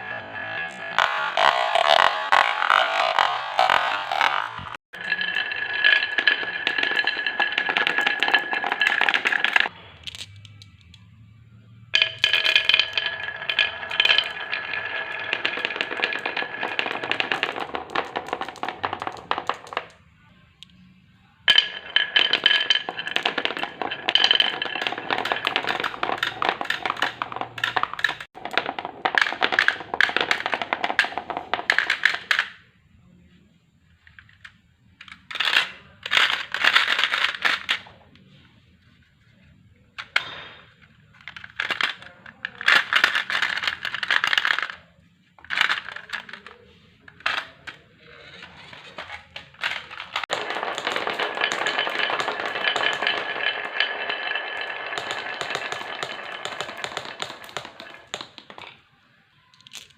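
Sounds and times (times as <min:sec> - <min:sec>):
marbles clattering down wooden run: 0:00.0 - 0:09.7, 0:12.0 - 0:20.0, 0:21.5 - 0:32.6, 0:35.0 - 0:37.9, 0:41.3 - 0:44.8, 0:45.4 - 0:58.8.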